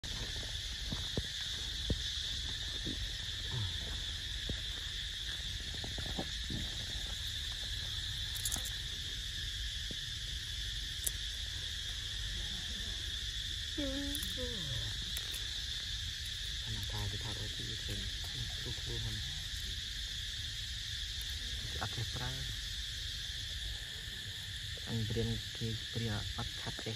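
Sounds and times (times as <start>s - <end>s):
insect chorus drone: 0.0s - 26.9s.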